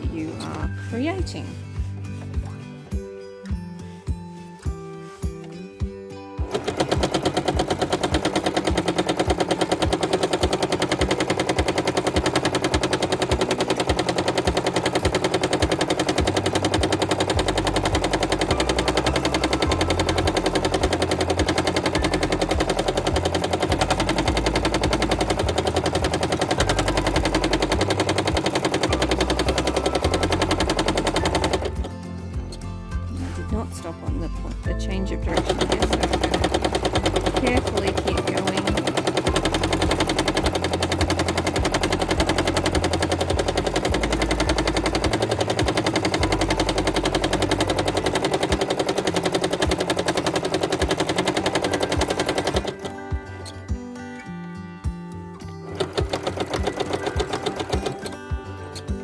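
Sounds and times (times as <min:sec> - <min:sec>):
sewing machine stitching: 0:06.4 - 0:33.8, 0:34.5 - 0:53.7, 0:55.6 - 0:59.0.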